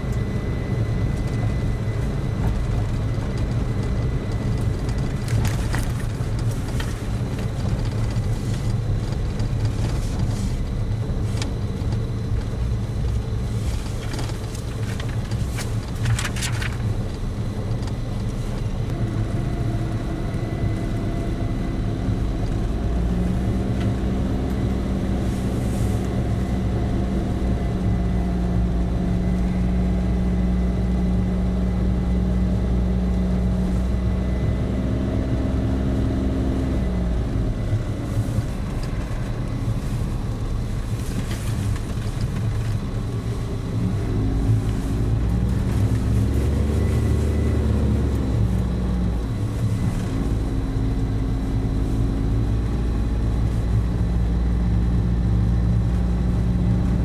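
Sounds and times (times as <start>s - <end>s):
car engine: 0.0s - 57.0s
road noise inside car: 0.0s - 57.0s.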